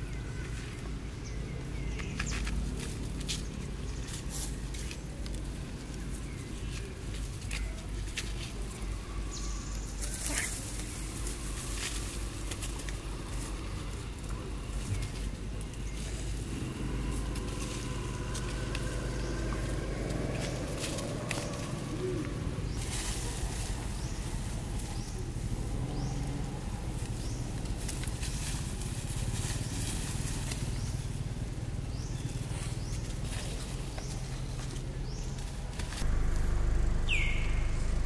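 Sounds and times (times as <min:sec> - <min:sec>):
dry leaves rustling and crackling: 0:00.0 - 0:38.0
low background rumble: 0:00.0 - 0:38.0.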